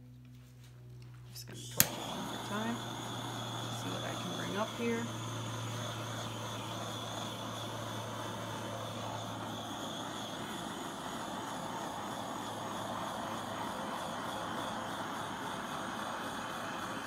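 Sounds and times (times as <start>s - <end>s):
butane torch hissing: 1.4s - 17.0s.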